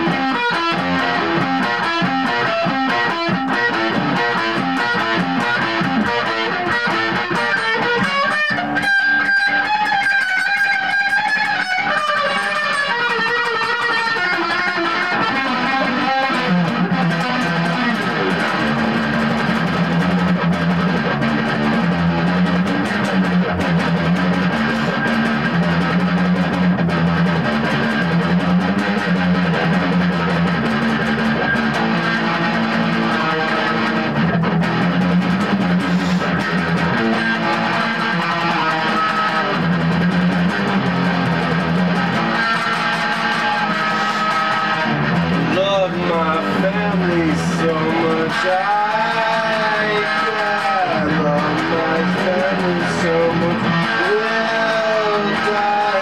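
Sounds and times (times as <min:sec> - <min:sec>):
electric guitar riff: 0:00.0 - 0:56.0.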